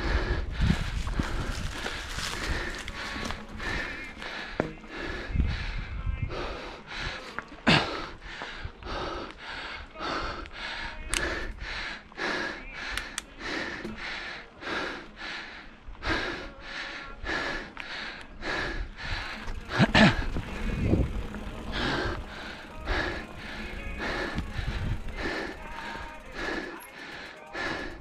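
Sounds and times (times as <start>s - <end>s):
person panting hard: 0.0s - 28.0s.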